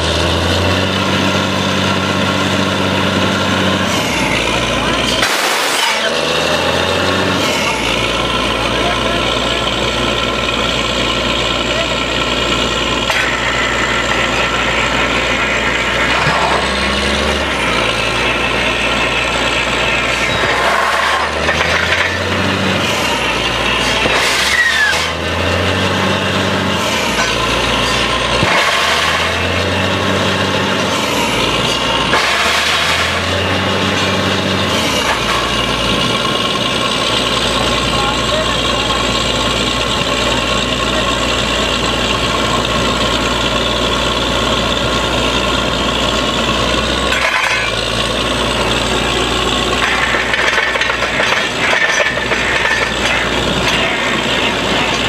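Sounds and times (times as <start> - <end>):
drilling rig engine running: 0.0 - 55.0.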